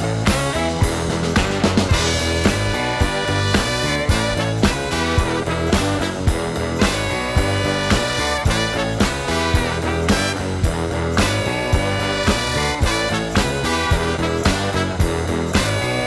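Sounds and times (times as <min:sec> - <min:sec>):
upbeat background music: 0:00.0 - 0:16.0.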